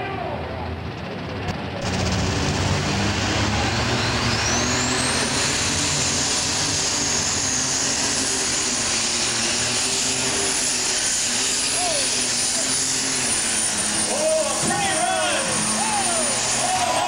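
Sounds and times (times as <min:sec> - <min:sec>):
diesel engine running flat out: 0:00.0 - 0:17.0
high turbocharger whine: 0:00.1 - 0:17.0.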